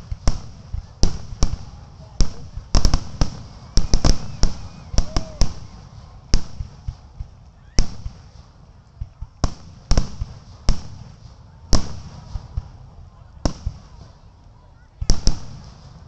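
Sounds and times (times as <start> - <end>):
fireworks bursting with echoing bangs: 0.0 - 14.3, 15.0 - 16.0.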